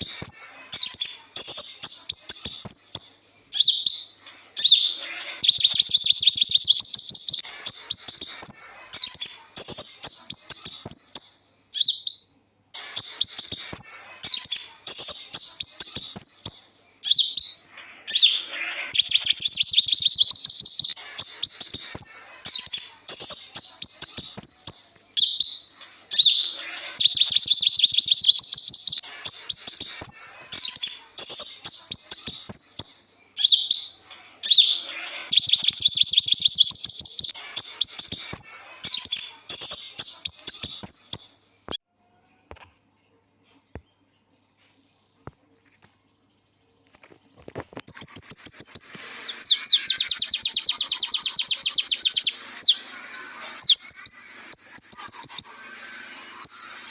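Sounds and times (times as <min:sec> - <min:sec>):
bird twittering song: 0:00.0 - 0:41.8, 0:47.8 - 0:56.9.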